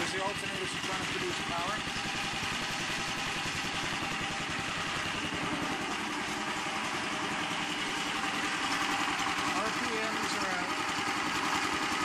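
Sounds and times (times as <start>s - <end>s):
gasoline engine running steadily: 0.0s - 12.0s.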